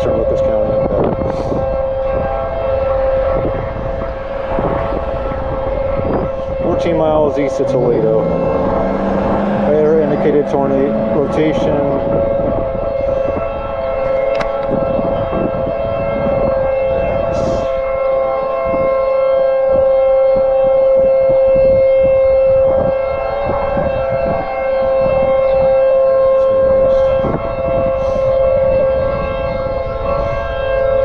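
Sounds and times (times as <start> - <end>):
warning siren steady tone: 0.0 - 31.0.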